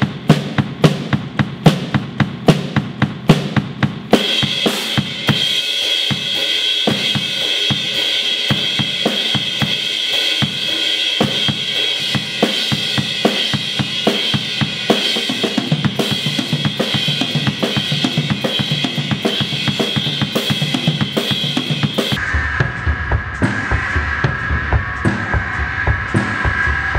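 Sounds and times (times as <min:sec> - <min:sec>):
drum hits: 0:00.0 - 0:06.3, 0:11.2 - 0:26.9
cymbals washing: 0:04.1 - 0:26.9.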